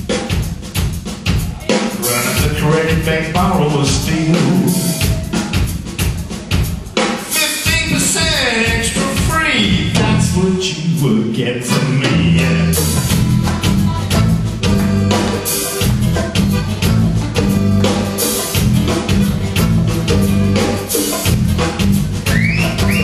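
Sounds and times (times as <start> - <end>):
drum kit beat: 0.0 - 23.0
bass guitar: 1.3 - 23.0.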